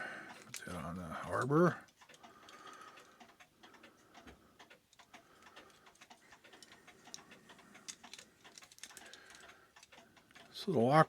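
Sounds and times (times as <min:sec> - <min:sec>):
light metallic clicks and ticks: 0:00.2 - 0:11.0.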